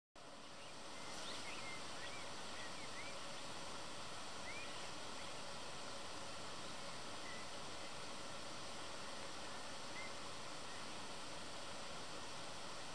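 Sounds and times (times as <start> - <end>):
steady outdoor hiss: 0.2 - 12.9.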